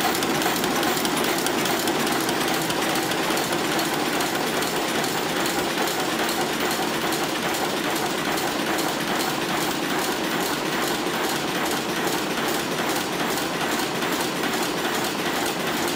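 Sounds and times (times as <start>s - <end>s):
machine clattering: 0.0s - 15.9s.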